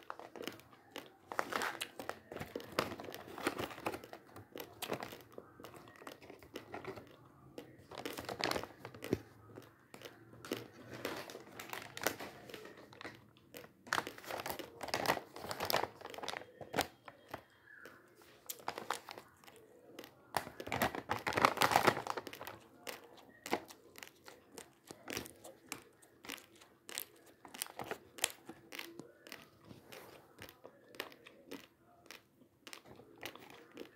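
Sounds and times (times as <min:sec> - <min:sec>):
plastic pouch crinkling: 0:00.0 - 0:09.3, 0:10.0 - 0:33.9.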